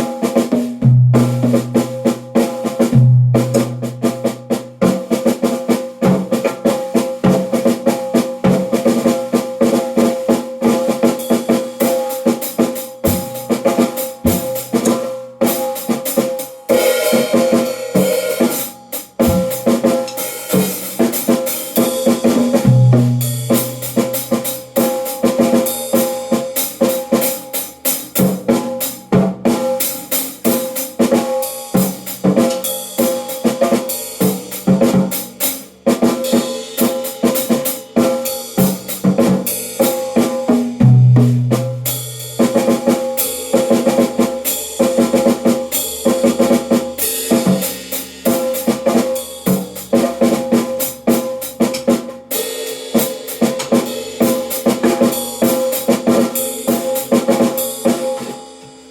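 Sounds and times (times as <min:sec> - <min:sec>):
drum kit groove: 0:00.0 - 0:58.9.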